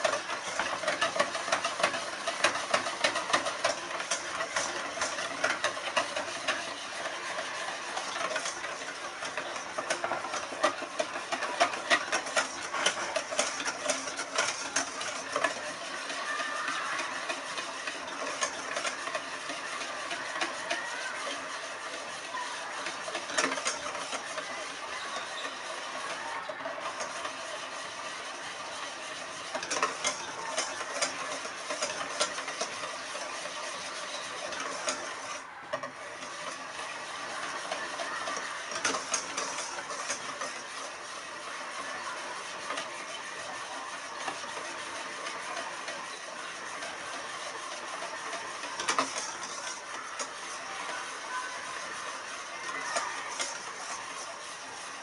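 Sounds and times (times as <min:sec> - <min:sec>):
whisk clinking: 0:00.0 - 0:55.0
whisk scraping metal bowl: 0:00.0 - 0:55.0.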